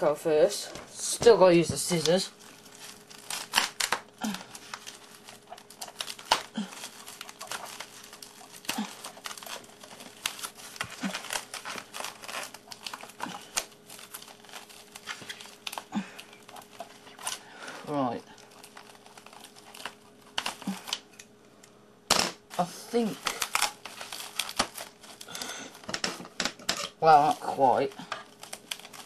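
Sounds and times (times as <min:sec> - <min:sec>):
plastic wrapping crinkling: 0:00.6 - 0:29.0
scissors cutting plastic: 0:01.6 - 0:17.5, 0:18.4 - 0:21.3, 0:22.6 - 0:29.0.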